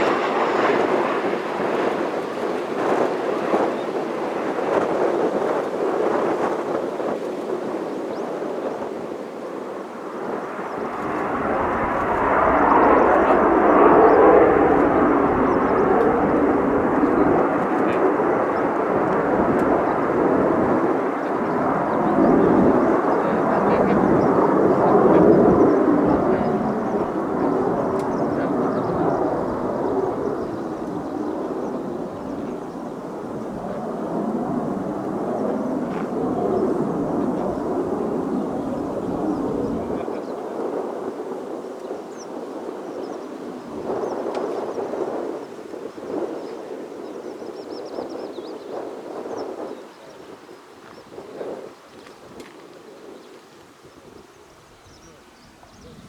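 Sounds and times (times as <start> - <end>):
jet aircraft passing: 0.0 - 8.1, 8.8 - 47.6.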